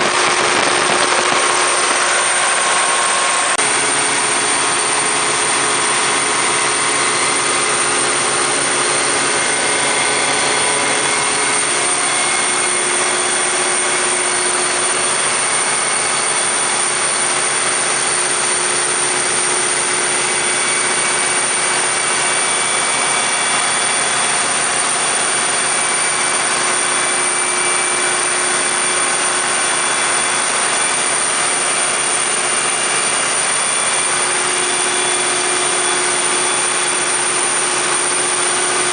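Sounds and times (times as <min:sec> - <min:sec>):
diesel generator engine running: 0:00.0 - 0:38.9
high whine: 0:00.0 - 0:38.9.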